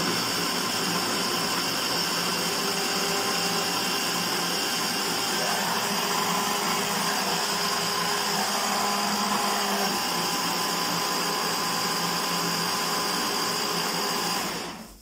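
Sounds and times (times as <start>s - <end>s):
hand blender motor whine: 0.0s - 15.0s.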